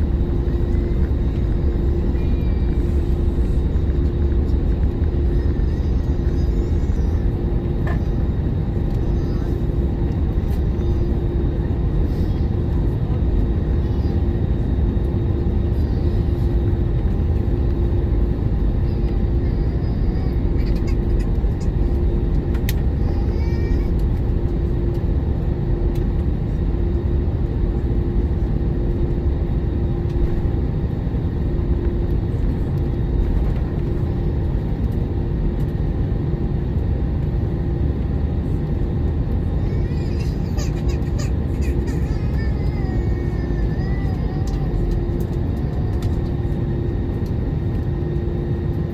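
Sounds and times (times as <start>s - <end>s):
airliner cabin rumble: 0.0s - 48.9s
steady hum: 0.0s - 48.9s.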